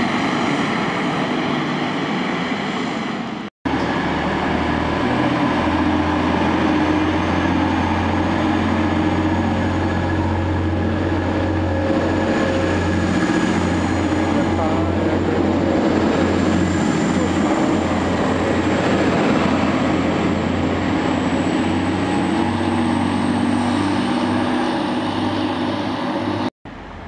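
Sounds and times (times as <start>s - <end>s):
bus engine: 0.0s - 27.0s
train diesel engines humming: 0.0s - 27.0s.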